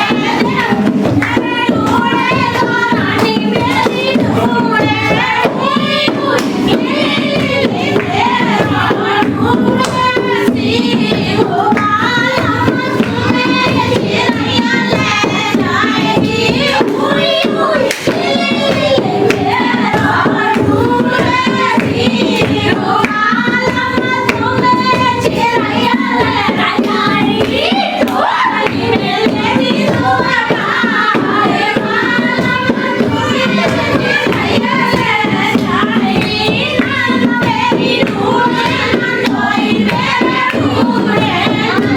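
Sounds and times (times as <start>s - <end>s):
rhythmic percussion: 0.0s - 41.9s.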